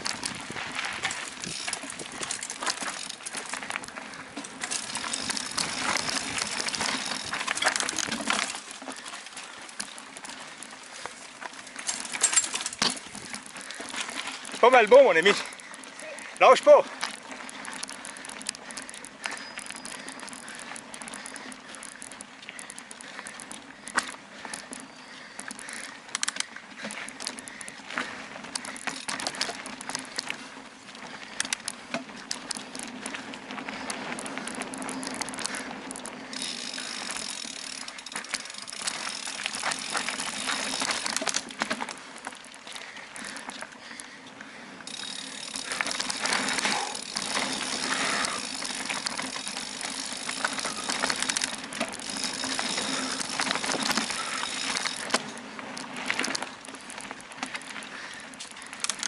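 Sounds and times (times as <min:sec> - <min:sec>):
bike rattling and clicking: 0:00.0 - 0:59.0.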